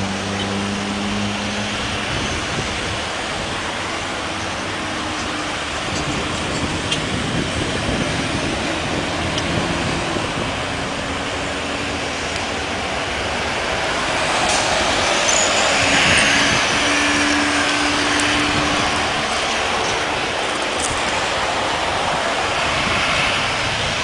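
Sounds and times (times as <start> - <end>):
distant jet engines: 0.0 - 24.0
road traffic rushing: 0.0 - 24.0.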